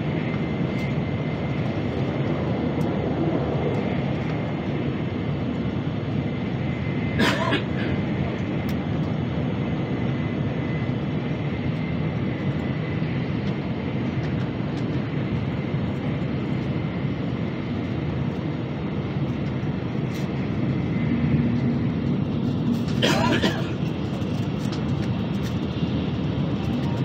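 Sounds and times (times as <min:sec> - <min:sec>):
train rumble and rushing noise: 0:00.0 - 0:27.0.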